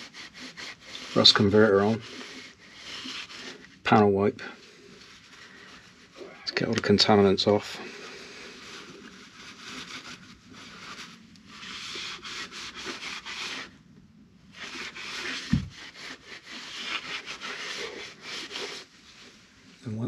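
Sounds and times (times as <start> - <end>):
cloth rubbing on metal bodywork: 0.0 - 13.8, 14.4 - 20.0.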